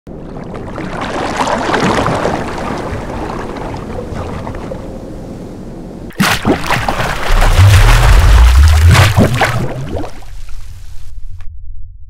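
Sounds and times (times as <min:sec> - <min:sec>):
sea water sloshing: 0:00.1 - 0:11.0.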